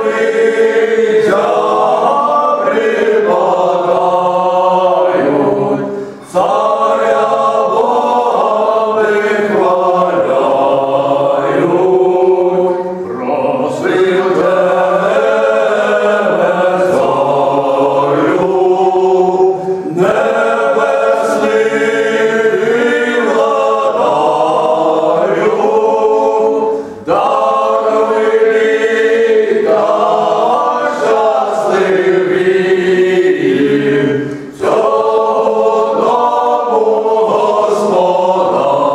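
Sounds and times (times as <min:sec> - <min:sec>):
male vocal ensemble singing a cappella: 0:00.0 - 0:38.9.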